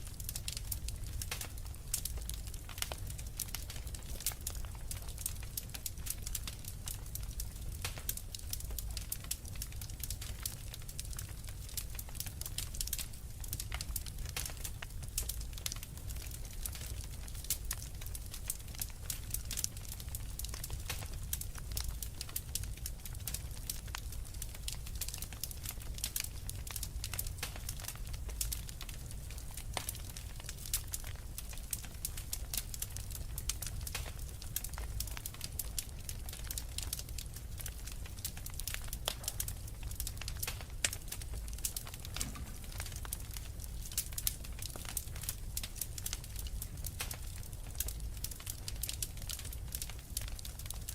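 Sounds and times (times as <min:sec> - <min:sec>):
fire pops and snaps: 0:00.0 - 0:50.9
low rumble of burning wood: 0:00.0 - 0:50.9.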